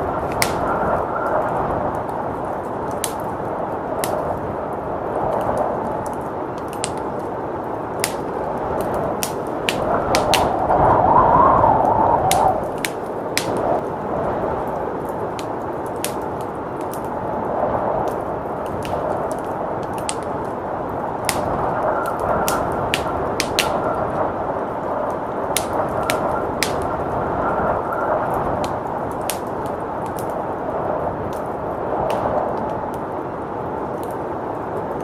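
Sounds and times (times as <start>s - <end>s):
blizzard wind rushing: 0.0s - 35.0s
wood fire crackling and popping: 0.0s - 35.0s.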